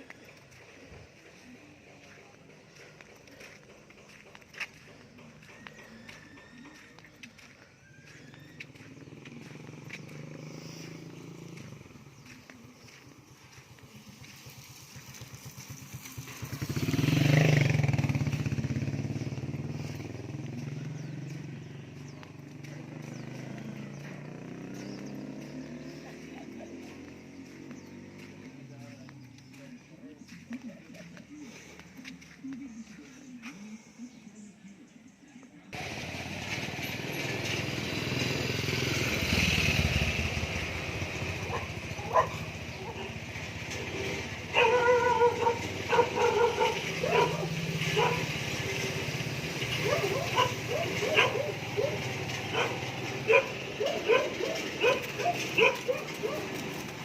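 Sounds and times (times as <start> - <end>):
motorcycle passing by: 0.0 - 34.5, 35.7 - 57.0.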